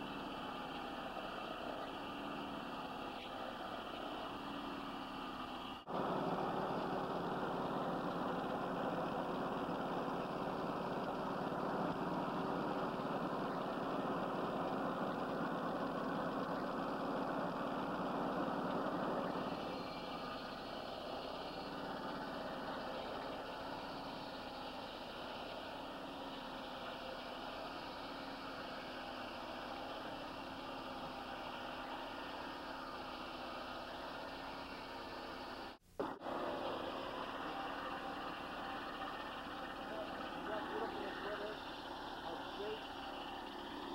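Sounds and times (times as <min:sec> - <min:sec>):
sawmill engine and blade droning: 0:00.0 - 0:43.9.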